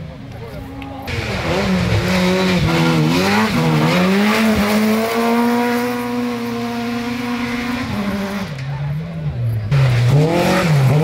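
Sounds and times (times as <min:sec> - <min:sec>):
car engine revving high: 0:01.1 - 0:08.8, 0:09.7 - 0:11.0.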